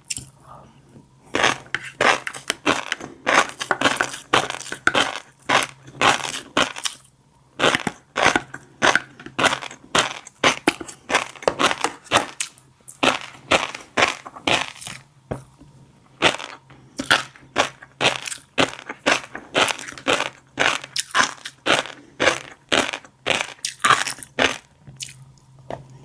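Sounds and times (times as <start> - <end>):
chewing crunchy fish eggs: 1.3 - 15.0, 16.2 - 25.6.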